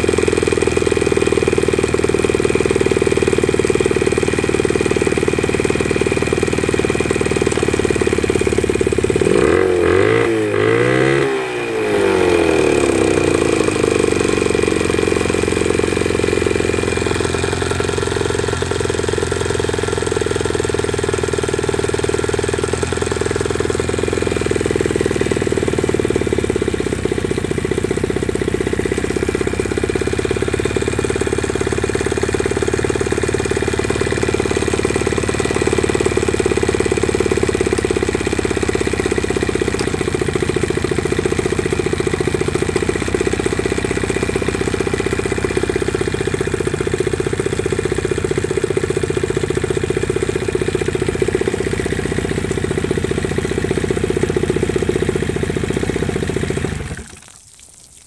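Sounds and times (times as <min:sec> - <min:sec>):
outboard motor running: 0:00.0 - 0:57.2.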